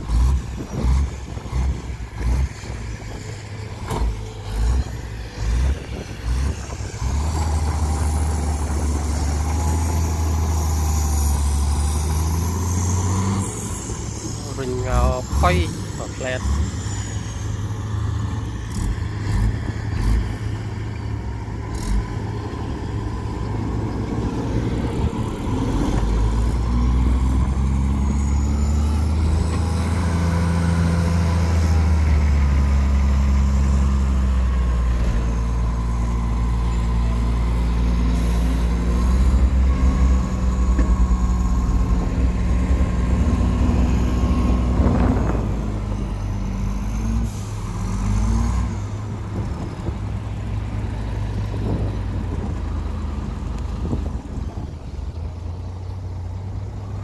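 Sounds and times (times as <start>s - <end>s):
diesel truck engine revving: 0.0s - 57.0s.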